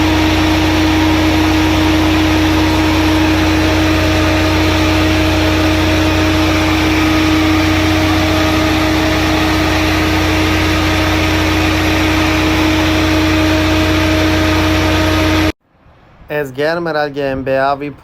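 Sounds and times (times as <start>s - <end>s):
diesel generator drone: 0.0s - 16.1s.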